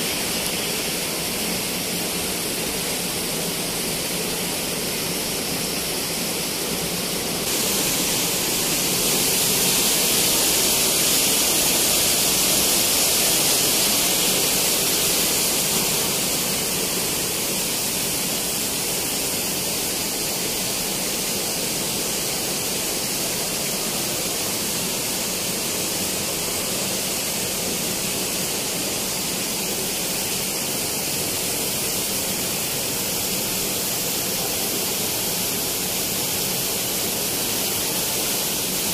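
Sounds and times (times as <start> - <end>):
fountain jets splashing: 0.0 - 38.9.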